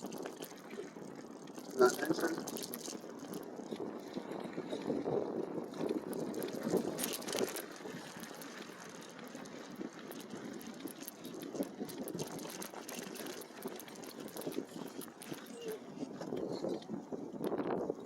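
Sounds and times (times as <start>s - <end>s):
small clicks and rattles: 0.0s - 17.9s
tyres crackling over dirt trail: 0.0s - 18.0s.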